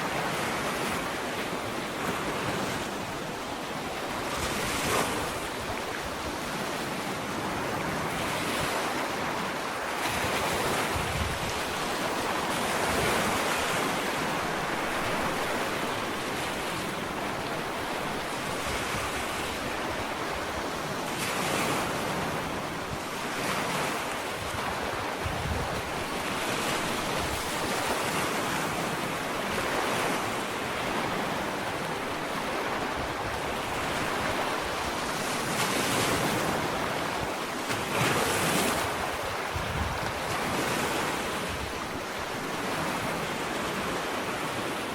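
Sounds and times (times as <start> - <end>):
ocean waves lapping on beach: 0.0 - 44.9.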